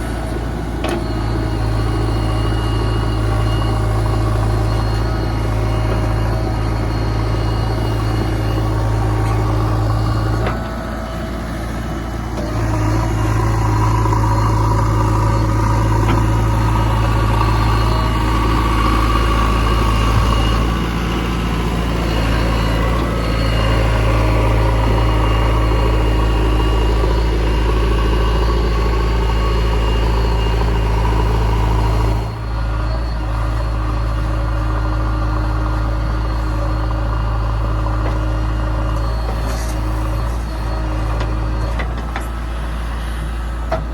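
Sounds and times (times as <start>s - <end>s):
backhoe diesel engine running: 0.0s - 43.9s.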